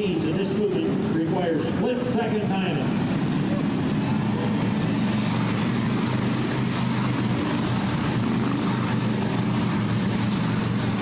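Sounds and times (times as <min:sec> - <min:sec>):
motorcycles droning together: 0:00.0 - 0:11.0.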